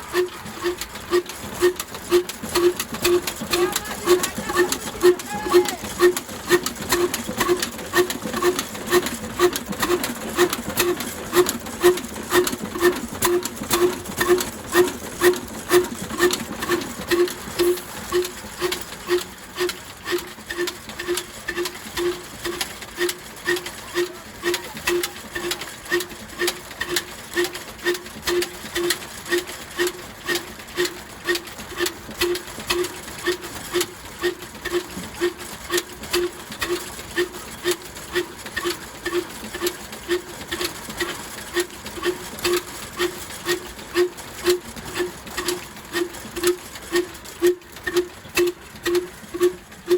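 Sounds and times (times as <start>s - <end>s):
diesel engine running slowly: 0.0s - 49.9s.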